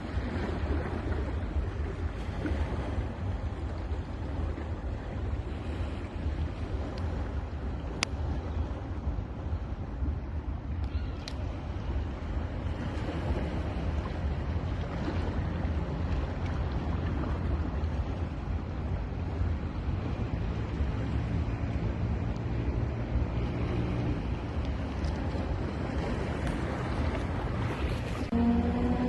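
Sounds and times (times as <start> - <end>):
ocean surf washing onto beach: 0.0 - 29.0.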